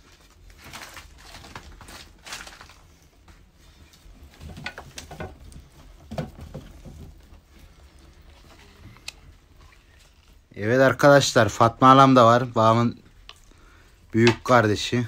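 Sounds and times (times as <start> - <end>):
sticks rustling and knocking: 0.0 - 11.2, 12.1 - 14.7
wood fire crackling: 0.0 - 15.0.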